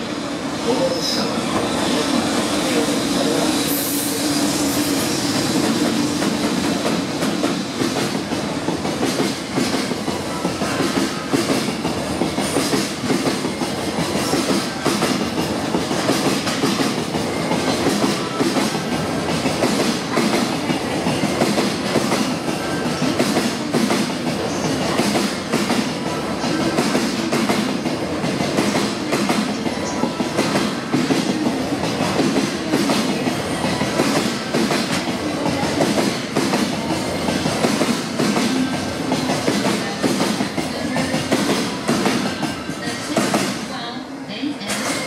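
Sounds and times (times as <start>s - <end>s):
electric locomotive passing: 0.0s - 45.0s.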